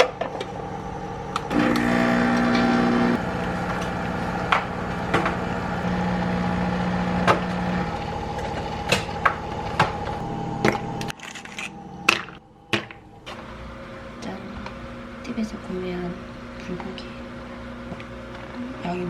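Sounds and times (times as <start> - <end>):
pottery wheel motor hum: 0.0 - 19.0.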